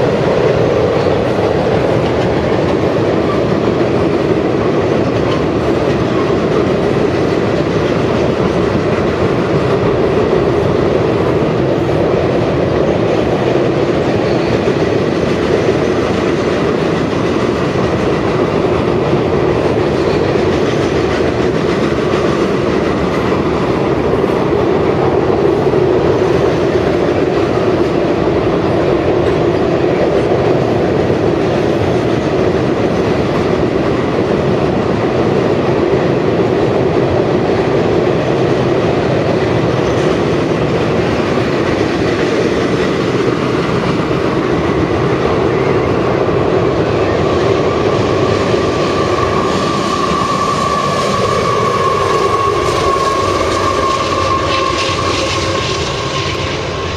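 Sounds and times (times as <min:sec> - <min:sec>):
train wheels rumbling on bridge: 0:00.0 - 0:56.9.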